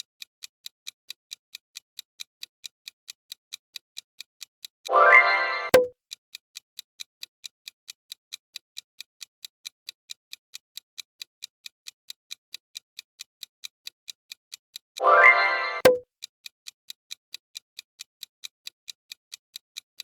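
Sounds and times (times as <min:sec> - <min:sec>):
clock-like ticking: 0:00.0 - 0:16.3.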